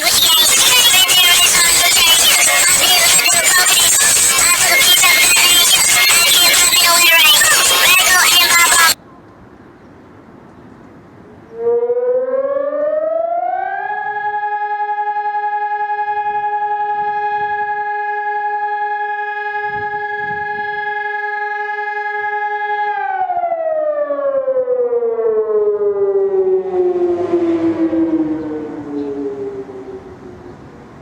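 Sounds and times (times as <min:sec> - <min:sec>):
siren wailing: 0:00.0 - 0:09.0, 0:11.5 - 0:30.8.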